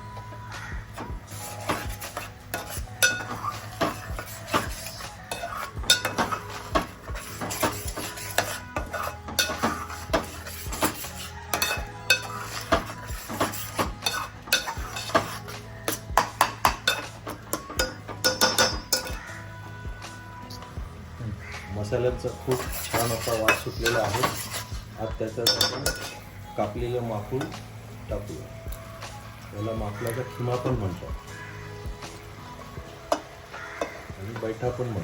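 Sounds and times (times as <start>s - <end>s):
metal spoon scraping pan: 0.6s - 19.4s, 21.5s - 34.6s.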